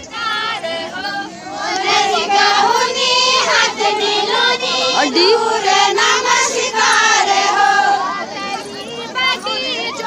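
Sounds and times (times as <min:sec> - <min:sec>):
group of women singing: 0:00.0 - 0:10.0.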